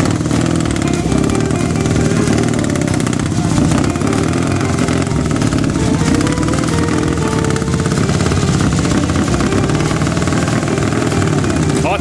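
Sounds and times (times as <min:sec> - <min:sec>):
motorcycle engine running: 0:00.0 - 0:12.0
music playing: 0:00.0 - 0:12.0.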